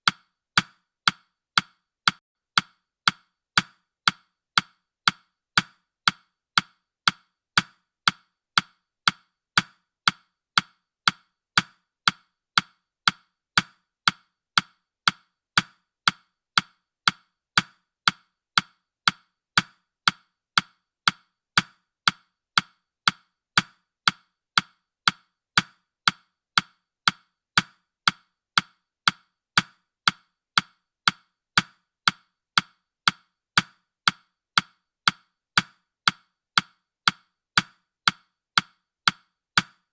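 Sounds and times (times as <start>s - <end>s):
timer ticking clicks: 0.0s - 39.9s.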